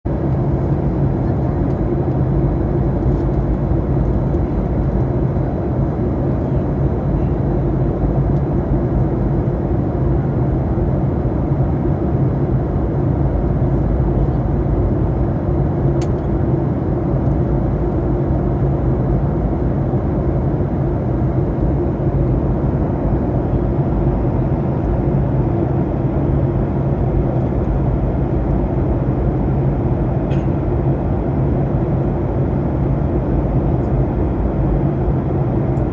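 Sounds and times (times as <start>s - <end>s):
airliner cabin drone: 0.1s - 35.9s.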